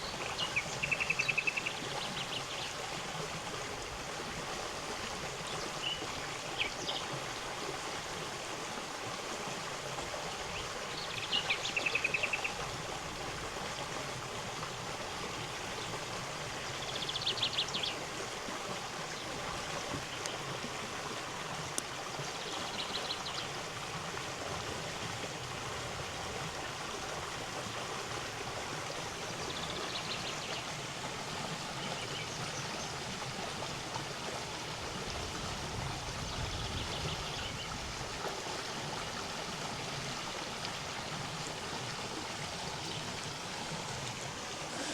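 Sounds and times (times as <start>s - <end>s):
river flowing over stones: 0.0s - 44.9s.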